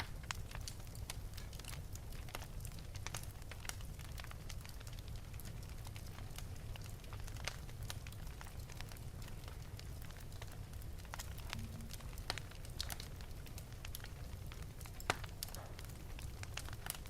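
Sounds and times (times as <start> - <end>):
flames rumbling: 0.0 - 17.0
wood fire crackling: 0.0 - 17.0.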